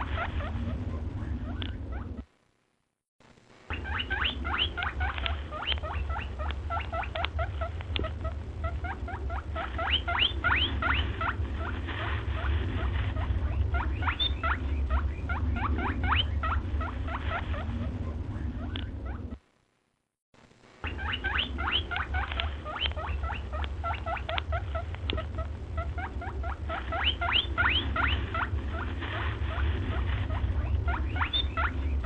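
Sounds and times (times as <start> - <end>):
steady low rumble: 0.0 - 19.8, 20.4 - 32.0
small animals squeaky chirps: 3.7 - 11.8, 12.4 - 19.4, 20.8 - 32.0.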